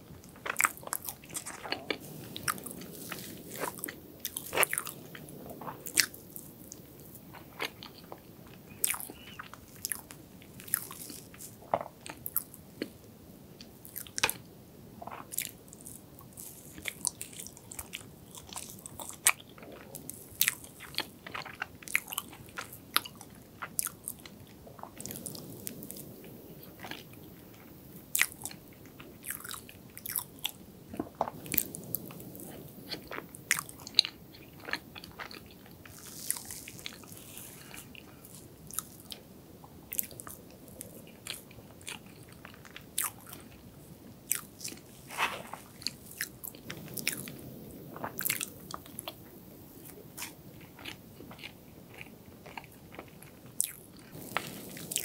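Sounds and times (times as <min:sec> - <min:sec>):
chewing cake: 0:00.1 - 0:13.0, 0:13.6 - 0:55.0.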